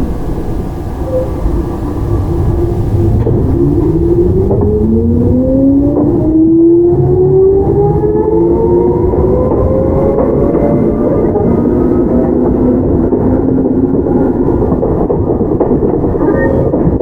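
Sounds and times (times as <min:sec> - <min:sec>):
train traction motors whining: 0:00.0 - 0:17.0
wheels rumbling on rails: 0:00.0 - 0:17.0.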